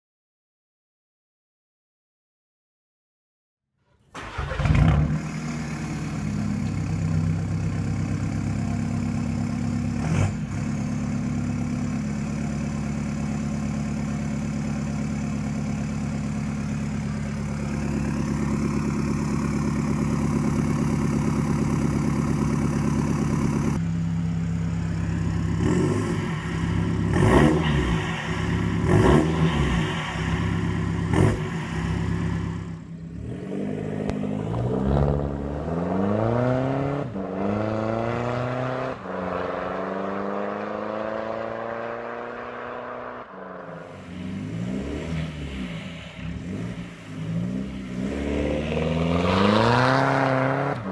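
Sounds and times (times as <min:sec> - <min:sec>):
diesel car engine idling and revving: 0:04.1 - 0:50.9.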